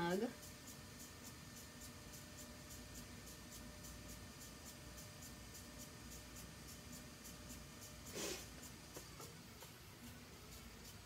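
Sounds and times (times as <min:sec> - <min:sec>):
light regular ticking: 0:00.1 - 0:11.0.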